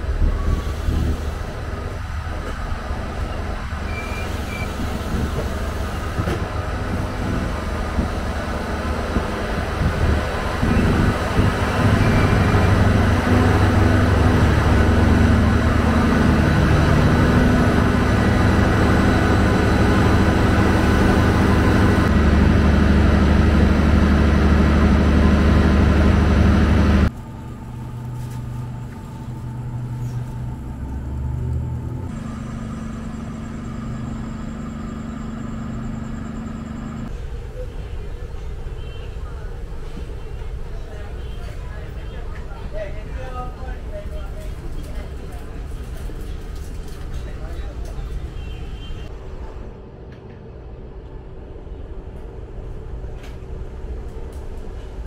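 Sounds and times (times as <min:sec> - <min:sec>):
diesel train engine rumbling: 0:00.0 - 0:55.0.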